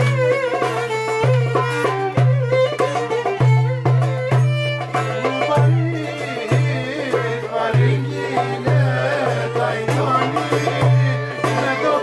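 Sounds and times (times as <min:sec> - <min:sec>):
folk music on violin and lute: 0:00.0 - 0:12.0.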